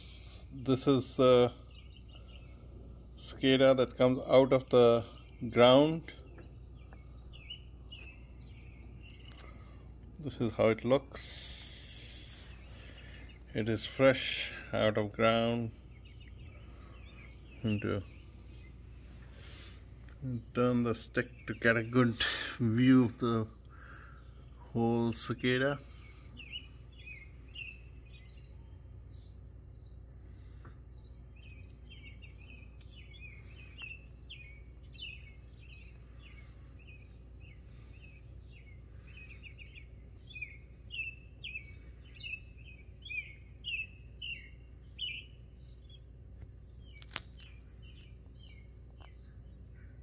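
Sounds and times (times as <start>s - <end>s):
bird chirping: 0.0s - 50.0s
steady low hum: 0.0s - 50.0s.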